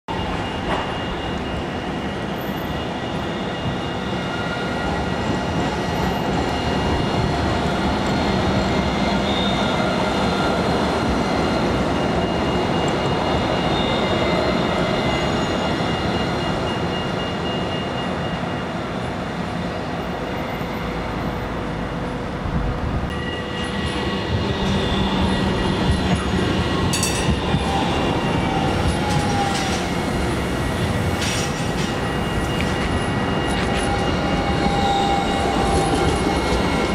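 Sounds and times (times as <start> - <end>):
tram electric whine: 0.1 - 36.9
tram rolling rumble: 0.1 - 36.9.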